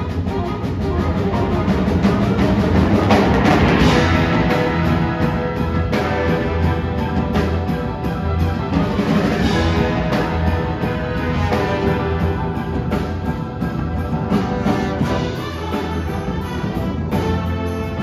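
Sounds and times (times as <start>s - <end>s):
concert band playing: 0.0s - 18.0s.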